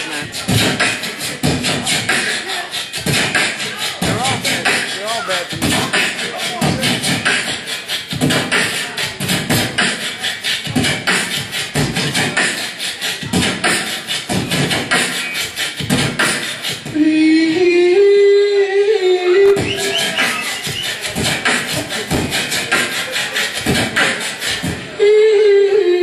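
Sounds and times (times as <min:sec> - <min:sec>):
beatboxing: 0:00.0 - 0:26.0.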